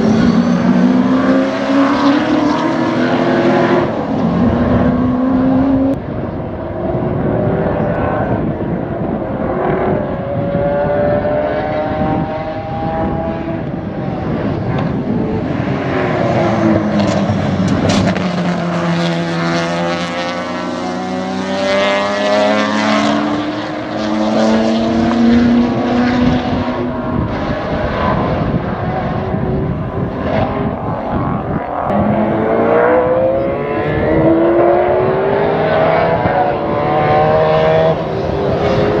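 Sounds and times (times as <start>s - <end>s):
race car engines revving: 0.0s - 39.0s.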